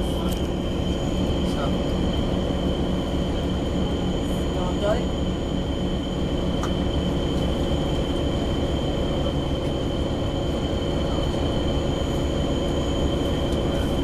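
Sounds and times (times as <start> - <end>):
bus engine drone and rumble: 0.0 - 14.0.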